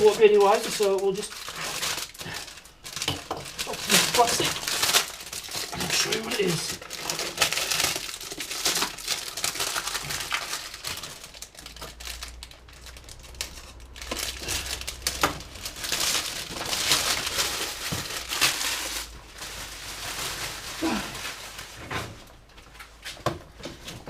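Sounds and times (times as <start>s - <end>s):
plastic tearing crackles: 0.0s - 22.4s
plastic packaging crinkling: 0.0s - 23.0s.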